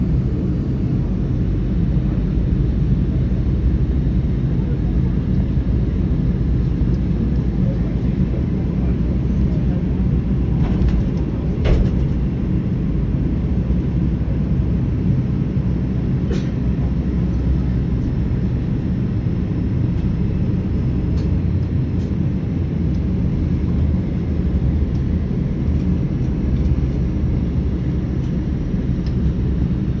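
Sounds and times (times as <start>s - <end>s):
jet airliner rumble: 0.0s - 30.0s.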